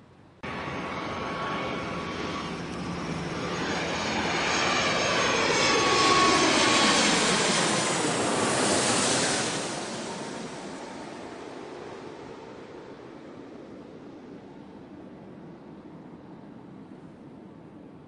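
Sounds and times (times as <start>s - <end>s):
jet airplane flying over: 0.4s - 18.0s.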